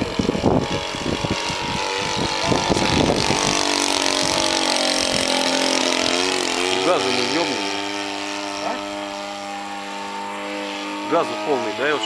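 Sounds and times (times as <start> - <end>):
aircraft engine running hard: 0.0 - 12.0.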